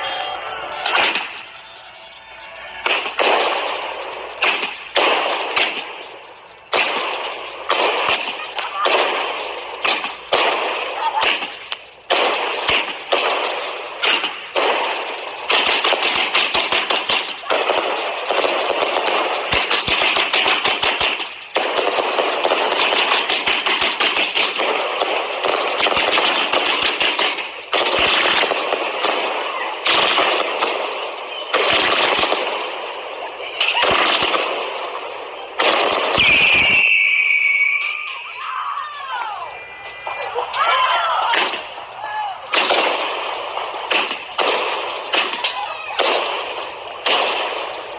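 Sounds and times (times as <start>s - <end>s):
fireworks crackling bangs: 0.0s - 38.4s, 39.6s - 47.9s.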